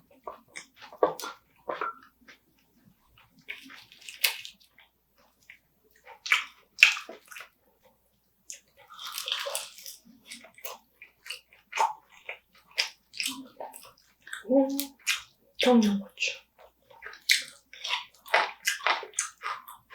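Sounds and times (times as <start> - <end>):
wet chewing and smacking: 0.0 - 19.9.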